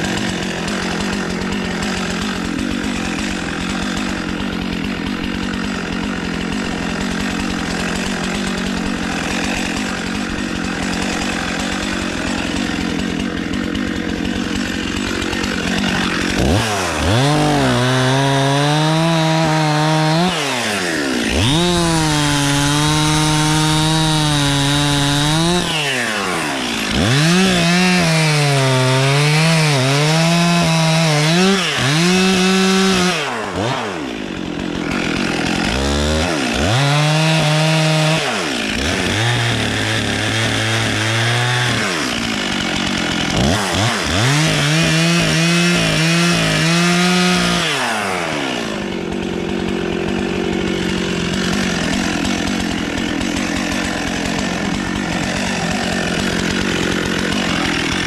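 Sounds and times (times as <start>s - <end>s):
chainsaw idling and cutting wood: 0.0s - 58.0s.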